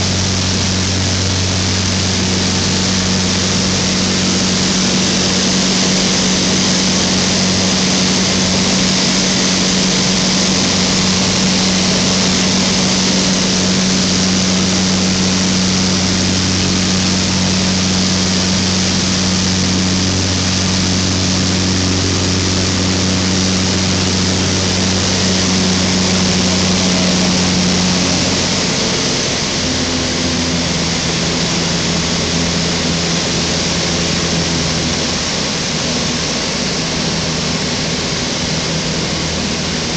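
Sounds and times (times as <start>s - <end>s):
microlight engine and propeller: 0.0s - 39.9s.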